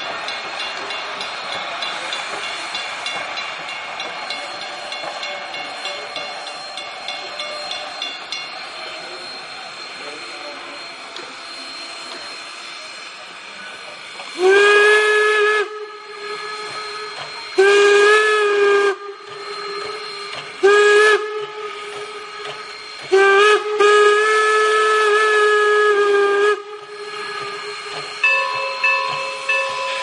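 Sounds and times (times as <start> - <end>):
locomotive steam hissing: 0.0 - 30.0
steam whistle blasts: 4.0 - 30.0.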